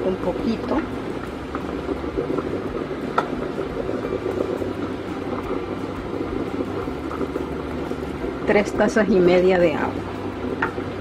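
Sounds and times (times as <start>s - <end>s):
water pouring into pot: 0.0s - 11.0s.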